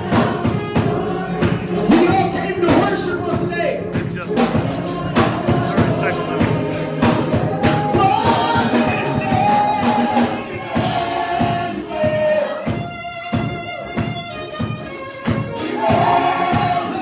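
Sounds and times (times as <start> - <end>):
drums keeping a steady beat: 0.0 - 17.0
gospel singing: 0.0 - 17.0.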